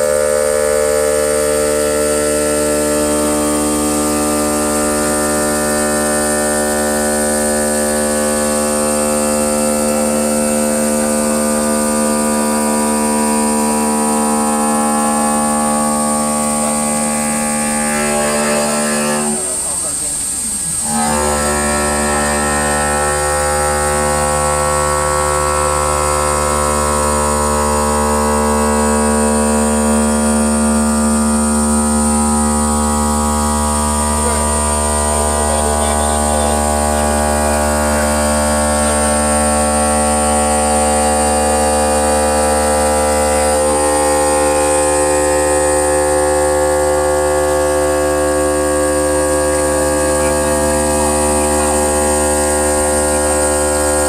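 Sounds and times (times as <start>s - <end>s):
high machine whine: 0.0s - 54.0s
stone cutting machine humming: 0.0s - 54.0s.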